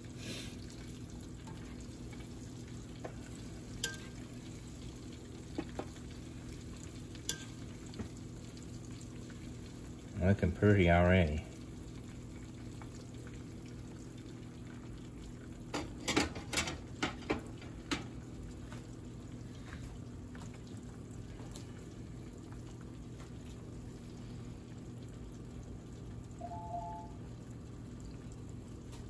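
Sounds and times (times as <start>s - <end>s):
deep-frying oil bubbling: 0.0s - 29.0s.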